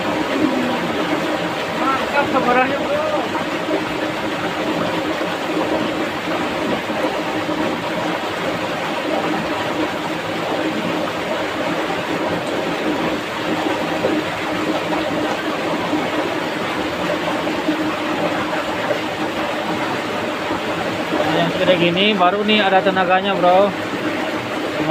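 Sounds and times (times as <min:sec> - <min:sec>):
river rushing over rocks: 0:00.0 - 0:24.9.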